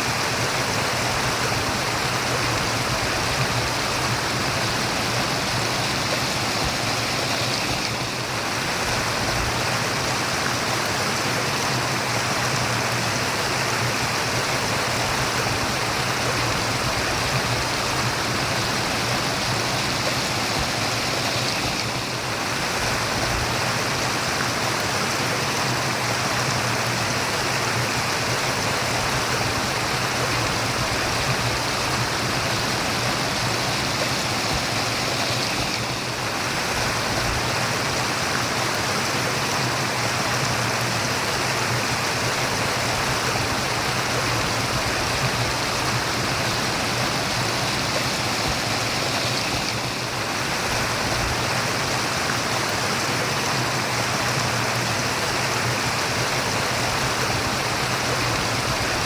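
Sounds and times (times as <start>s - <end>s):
running water murmuring: 0.0s - 59.0s.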